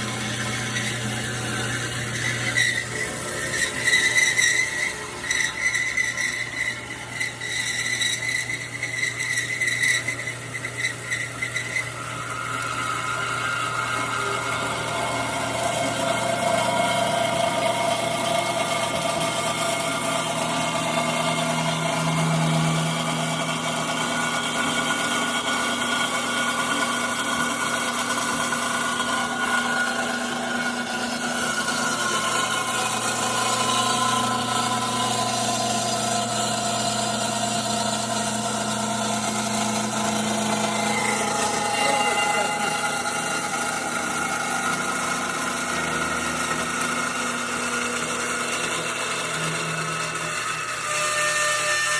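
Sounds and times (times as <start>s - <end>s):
powered machine droning: 0.0s - 51.9s.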